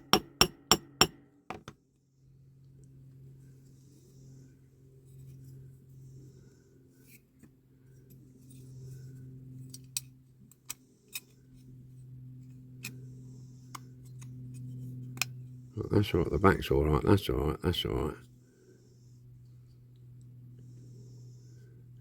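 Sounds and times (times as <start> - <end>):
steady low hum: 2.1 - 22.0.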